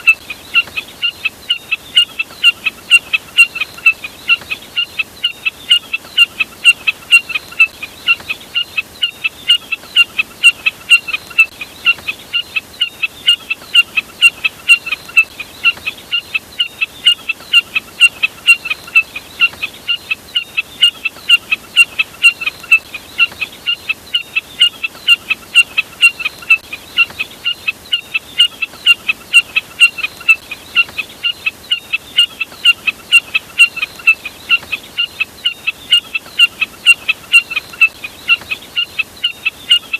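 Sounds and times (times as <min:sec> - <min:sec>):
snipe calling: 0:00.0 - 0:39.9.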